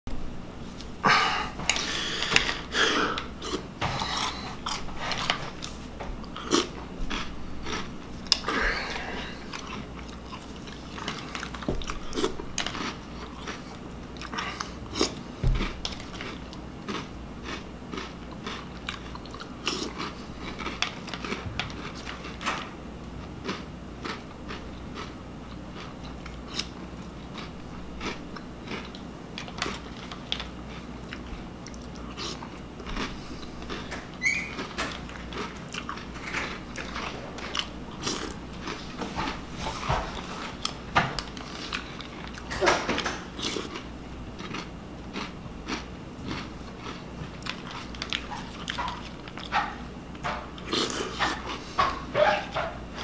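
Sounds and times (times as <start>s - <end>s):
person chewing crunchy cereal: 0.7s - 53.0s.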